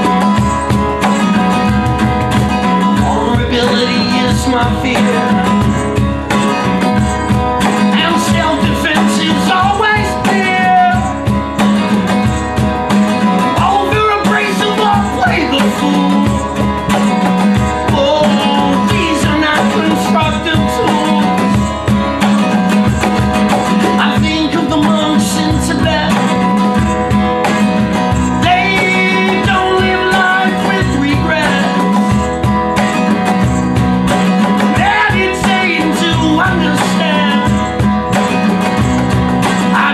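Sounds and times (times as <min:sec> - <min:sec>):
band playing guitar-led music: 0:00.0 - 0:39.9.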